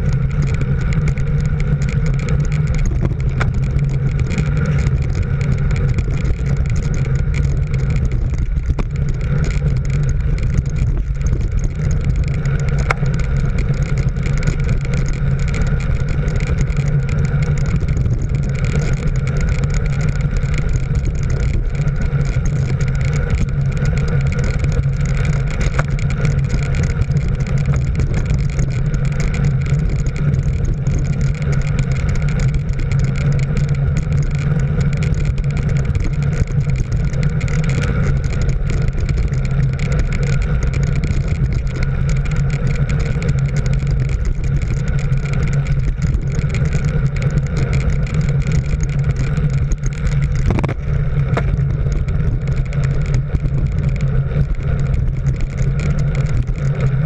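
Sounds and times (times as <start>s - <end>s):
vehicle engine droning: 0.0s - 57.0s
wind rumbling on microphone: 0.0s - 57.0s.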